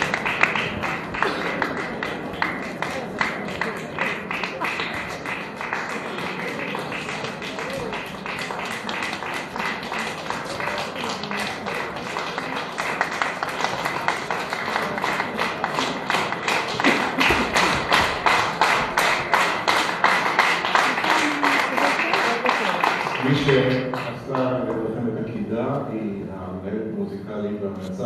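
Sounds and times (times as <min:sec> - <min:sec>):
audience applauding: 0:00.0 - 0:25.1.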